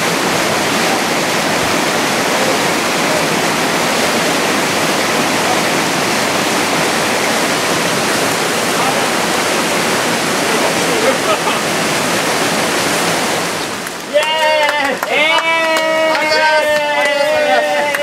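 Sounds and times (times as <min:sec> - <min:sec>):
river water flowing over rocks: 0:00.0 - 0:18.0.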